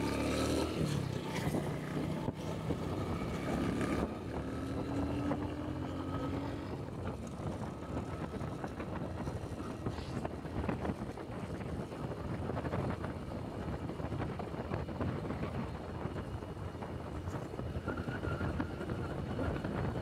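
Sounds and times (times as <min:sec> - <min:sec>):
road noise: 0:00.0 - 0:20.0
wind rushing over microphone: 0:00.0 - 0:20.0.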